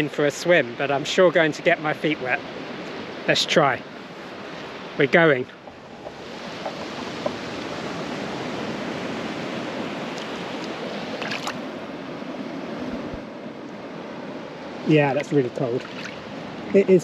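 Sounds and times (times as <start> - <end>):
surf washing over sand: 0.0 - 17.0.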